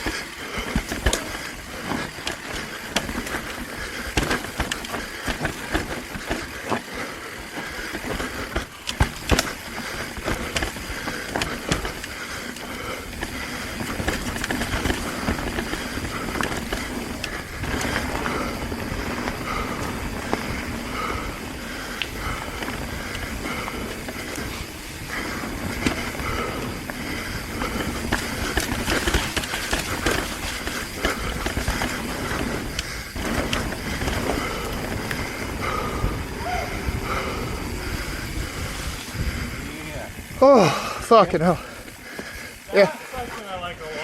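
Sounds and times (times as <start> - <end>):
bike knocking on bumps: 0.0 - 40.5
bike rattling: 0.0 - 44.0
bike tyres rolling over ground: 0.0 - 44.0.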